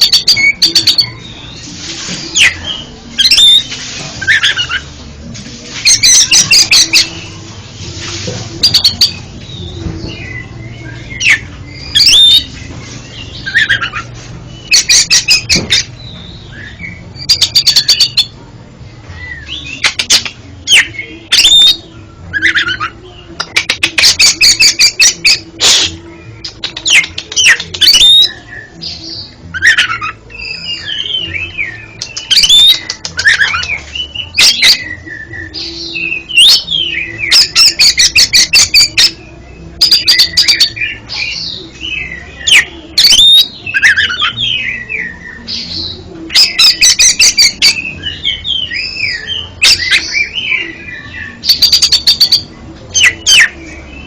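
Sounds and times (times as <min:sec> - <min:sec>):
songbird whistling and chattering: 0:00.0 - 0:04.9, 0:05.8 - 0:07.4, 0:08.6 - 0:18.4, 0:19.1 - 0:54.0.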